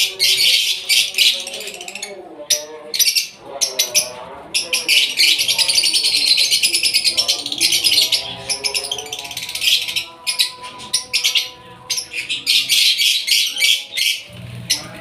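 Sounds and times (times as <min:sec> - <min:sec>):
music: 0:00.0 - 0:15.0
small birds chirping: 0:00.0 - 0:15.0.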